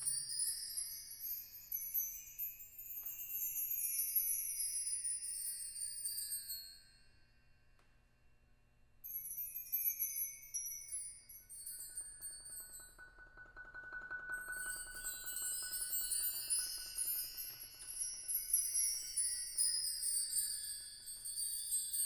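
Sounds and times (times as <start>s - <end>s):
shimmering metallic chimes: 0.0s - 7.6s, 9.0s - 22.0s.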